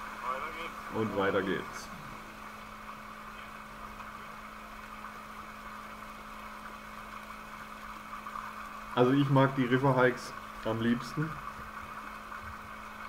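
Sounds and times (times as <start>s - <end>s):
constant hiss: 0.0s - 13.0s
steady low hum: 0.0s - 13.0s.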